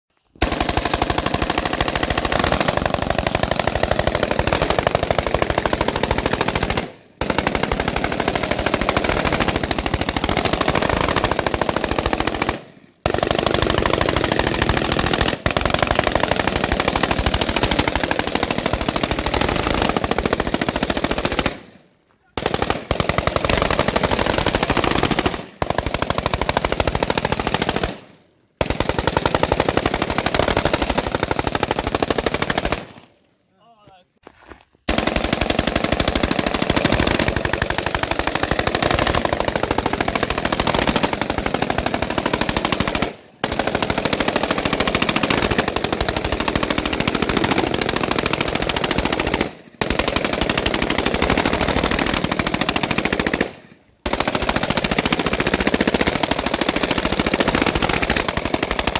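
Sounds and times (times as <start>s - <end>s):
automatic gunfire: 0.4s - 33.2s, 34.9s - 58.9s.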